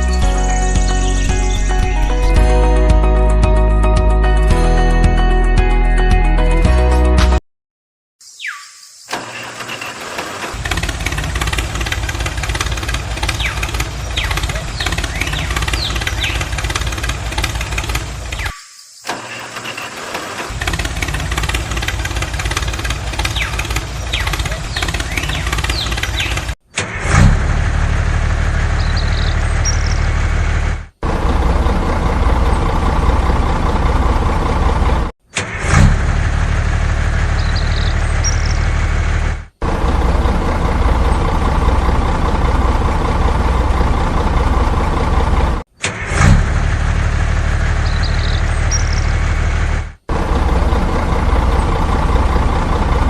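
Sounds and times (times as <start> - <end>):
engine starting and idling: 9.1 - 18.5, 19.1 - 53.0.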